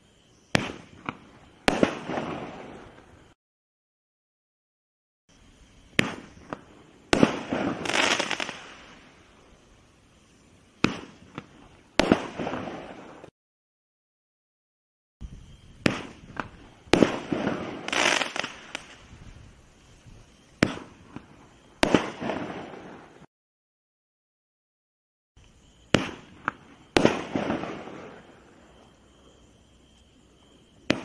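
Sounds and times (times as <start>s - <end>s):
crackling hiss: 0.0s - 3.4s, 5.3s - 13.3s, 15.2s - 23.3s, 25.4s - 31.0s.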